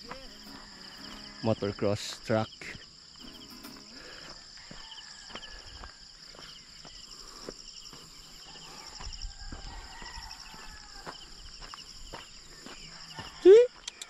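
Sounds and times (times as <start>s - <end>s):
footsteps on rough road: 0.0s - 13.9s
insects trilling: 0.0s - 14.0s.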